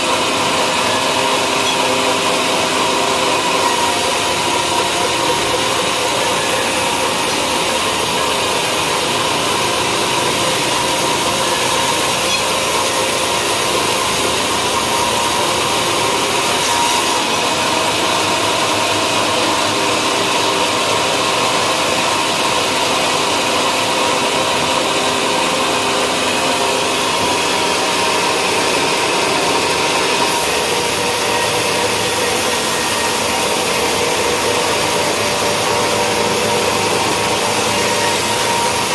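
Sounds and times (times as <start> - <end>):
sawmill machinery noise: 0.0 - 38.9.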